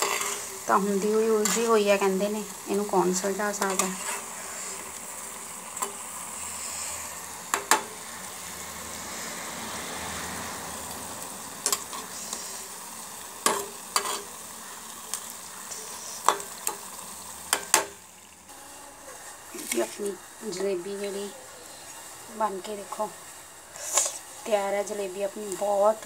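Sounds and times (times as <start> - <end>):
sweets deep-frying in oil: 0.0 - 26.0.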